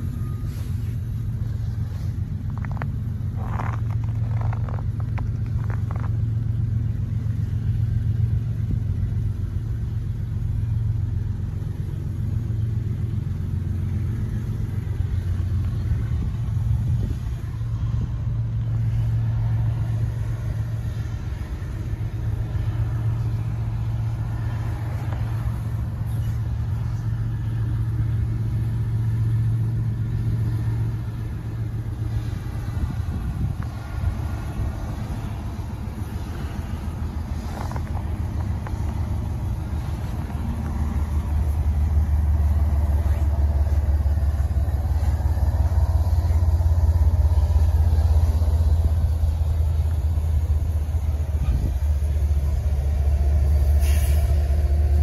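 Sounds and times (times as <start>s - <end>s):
diesel locomotive engine droning: 0.0s - 55.0s.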